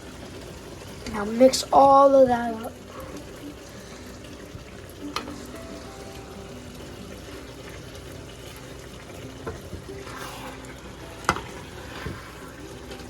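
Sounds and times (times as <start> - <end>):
food sizzling in pot: 0.0 - 13.0.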